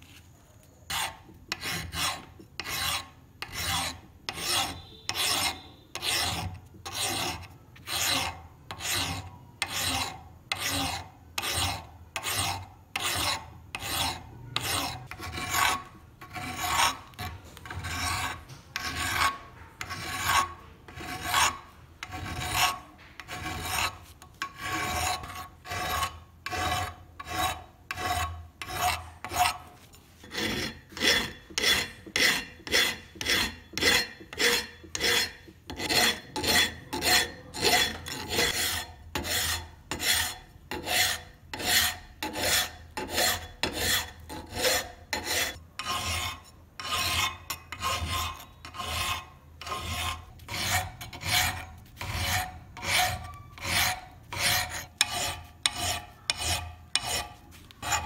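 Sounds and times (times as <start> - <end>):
hand file rasping on steel: 0.8 - 58.0.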